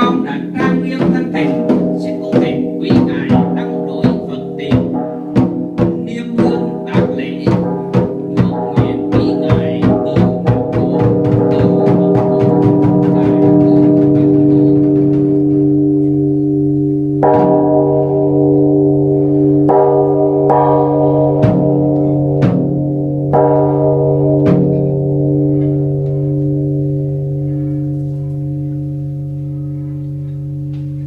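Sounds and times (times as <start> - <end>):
temple bell ringing: 0.0 - 31.0.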